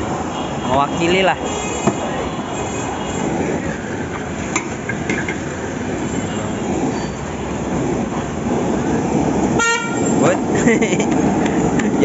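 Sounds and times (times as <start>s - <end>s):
gas burner flames roaring: 0.0s - 12.0s
street traffic: 0.0s - 12.0s.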